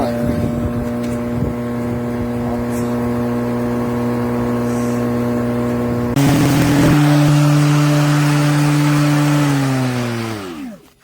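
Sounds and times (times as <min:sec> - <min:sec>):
electric lawn mower humming: 0:00.0 - 0:11.0.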